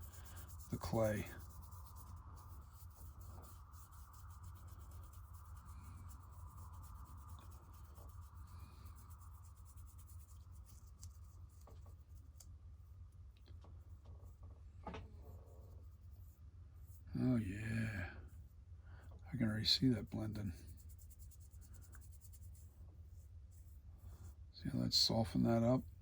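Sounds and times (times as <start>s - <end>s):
low steady hum: 0.0s - 26.0s
paintbrush scratching on clay: 0.0s - 26.0s.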